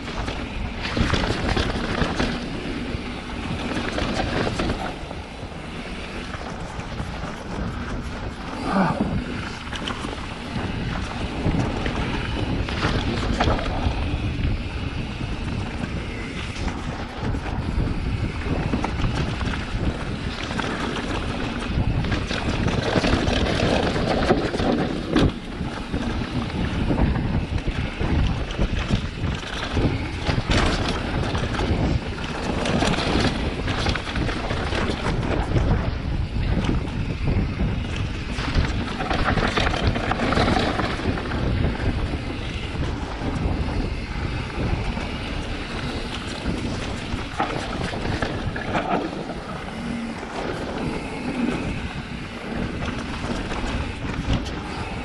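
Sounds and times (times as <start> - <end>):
bike knocking and rattling: 0.0 - 55.0
tyres rolling over dirt and rock: 0.0 - 55.0
wind rushing over microphone: 0.0 - 55.0.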